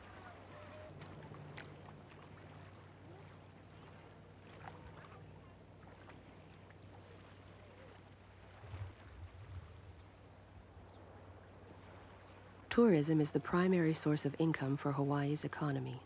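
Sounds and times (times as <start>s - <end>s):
soft water splashing: 0.0s - 14.6s.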